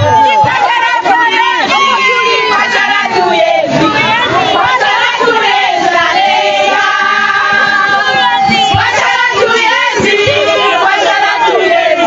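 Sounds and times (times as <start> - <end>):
crowd singing in chorus: 0.0 - 12.0.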